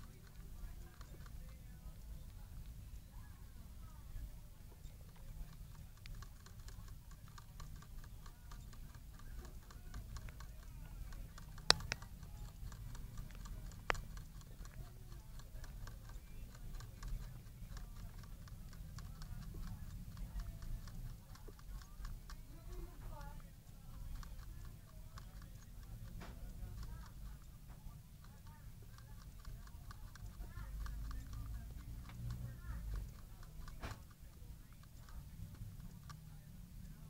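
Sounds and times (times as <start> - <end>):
hamster licking water bottle: 0.0 - 37.0
sharp clicks: 5.1 - 36.8.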